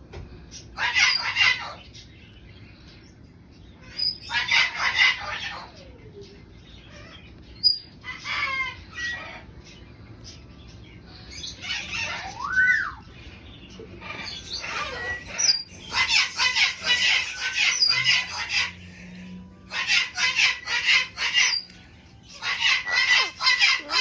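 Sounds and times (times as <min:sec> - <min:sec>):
parrots squawking and screeching: 0:00.5 - 0:24.0.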